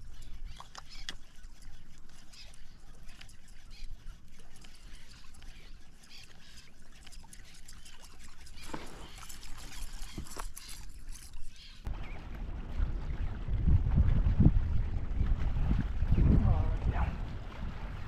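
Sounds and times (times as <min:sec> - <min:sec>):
waves lapping against kayak hull: 0:00.0 - 0:18.0.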